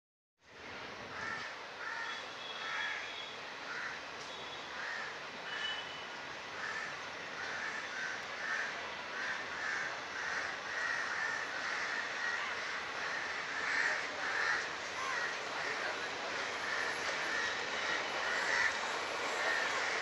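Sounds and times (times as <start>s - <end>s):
crows cawing: 1.1s - 4.0s, 4.8s - 5.7s, 6.6s - 20.0s.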